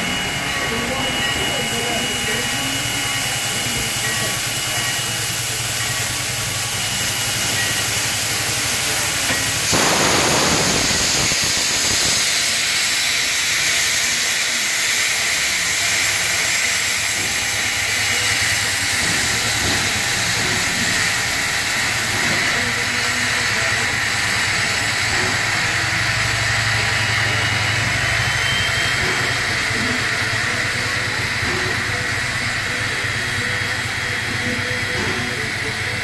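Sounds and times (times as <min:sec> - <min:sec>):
steam locomotive hissing: 0:00.0 - 0:36.0.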